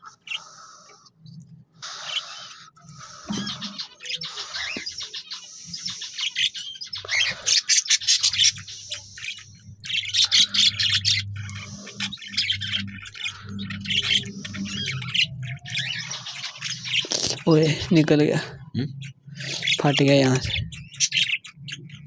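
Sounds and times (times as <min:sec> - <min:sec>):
parrots chirping and squawking: 0:00.0 - 0:22.0.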